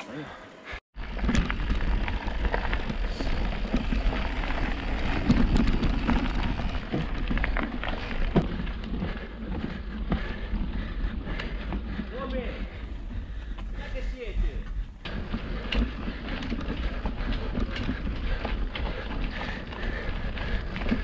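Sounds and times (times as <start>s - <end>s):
bike clicking and rattling: 1.0s - 21.0s
bike tyres rolling over dirt: 1.0s - 21.0s.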